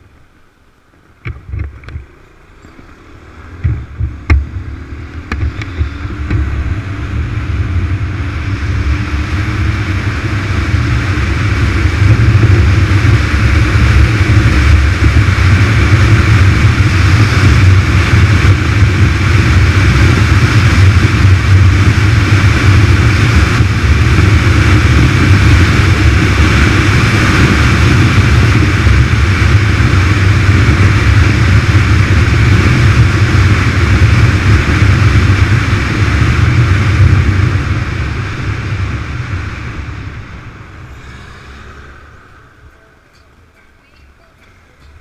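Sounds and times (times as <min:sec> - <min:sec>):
motorcycle engine drone: 0:00.0 - 0:45.0
wind rush over camera: 0:00.9 - 0:44.0.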